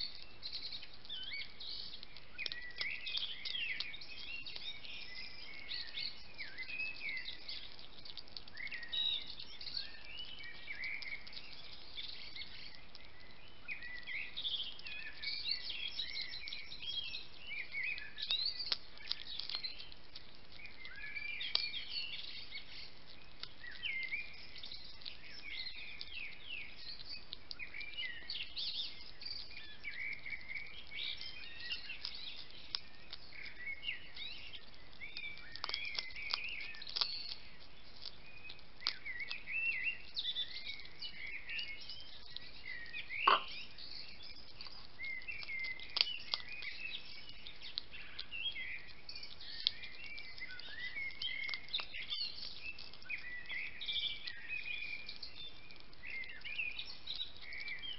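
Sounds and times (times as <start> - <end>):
hedgehog crunching dry food: 0.0 - 57.9
small high chirps: 0.0 - 57.9.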